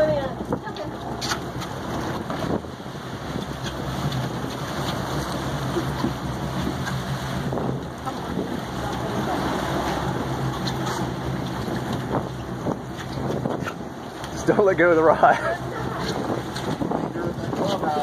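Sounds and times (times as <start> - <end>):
boat engine humming: 0.0 - 18.0
choppy sea wash: 0.0 - 18.0
wind on microphone: 0.0 - 18.0.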